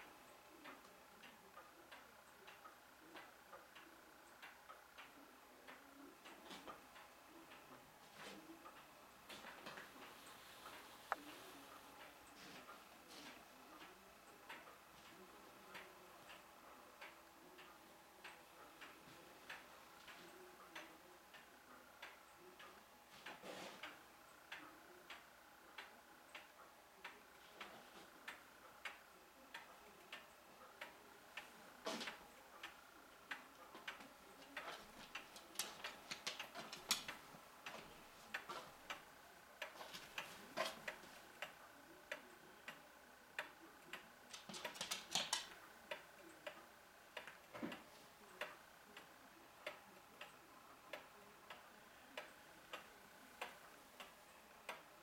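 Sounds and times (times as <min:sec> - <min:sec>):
faint ticking clicks: 0:00.0 - 0:55.0.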